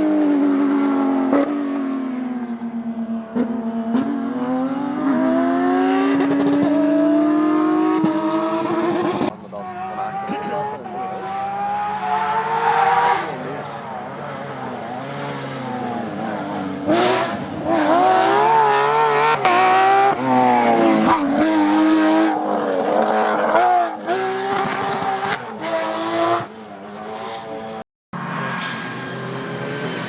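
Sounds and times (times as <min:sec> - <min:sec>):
rally car engine accelerating: 0:00.0 - 0:30.0.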